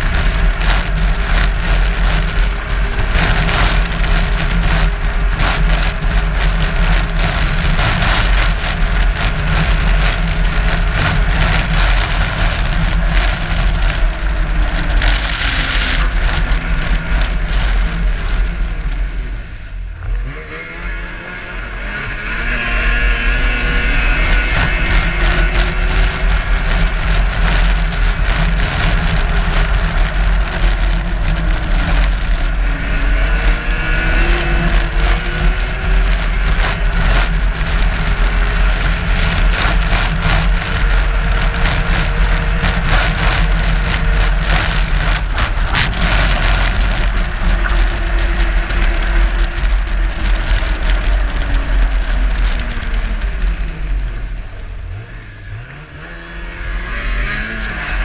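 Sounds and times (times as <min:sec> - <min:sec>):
race car engine under load: 0:00.0 - 0:58.0
wind rumble on microphone: 0:00.0 - 0:58.0.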